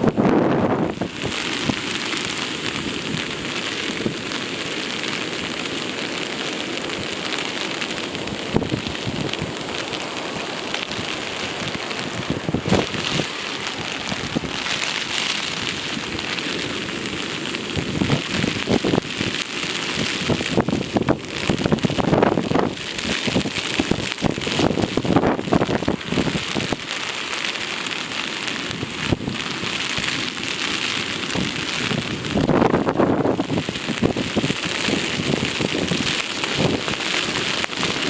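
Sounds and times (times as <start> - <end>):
wind buffeting microphone: 0.0 - 38.0
wind-driven rain hiss: 0.0 - 38.0.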